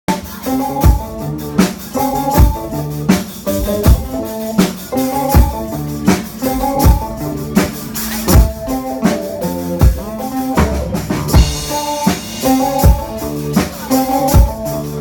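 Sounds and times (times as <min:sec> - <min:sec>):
electronic keyboard chords: 0:00.1 - 0:15.0
steady drum beat: 0:00.1 - 0:15.0.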